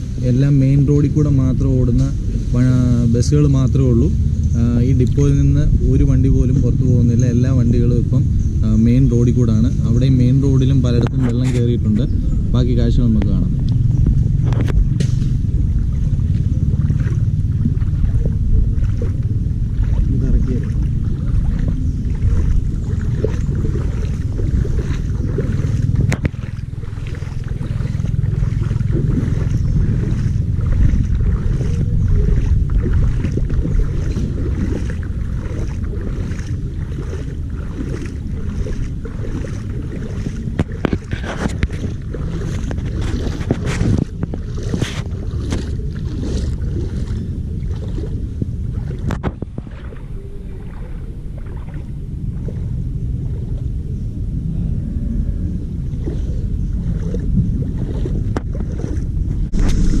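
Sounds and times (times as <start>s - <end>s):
low engine rumble: 0.0s - 60.0s
wind buffeting microphone: 0.0s - 60.0s.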